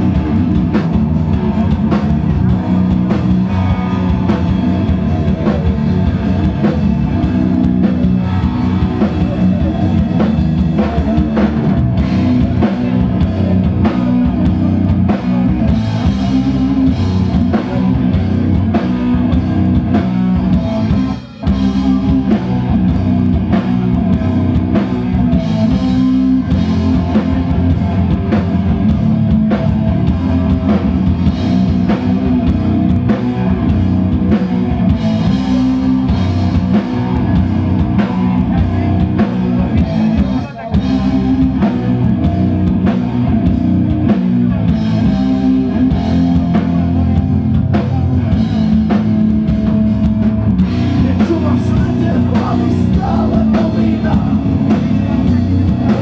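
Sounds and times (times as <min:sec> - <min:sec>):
live thrash metal band: 0:00.0 - 0:56.0.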